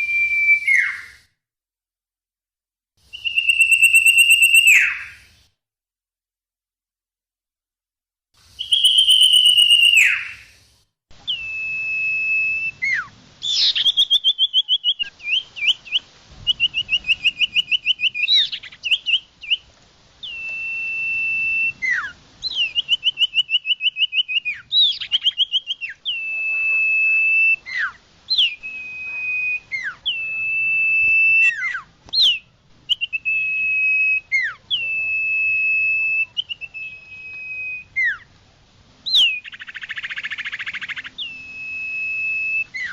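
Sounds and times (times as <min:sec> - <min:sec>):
bird whistles with downward slur: 0:00.0 - 0:01.3, 0:03.1 - 0:05.4, 0:08.4 - 0:19.6, 0:20.2 - 0:38.3, 0:39.1 - 0:42.9.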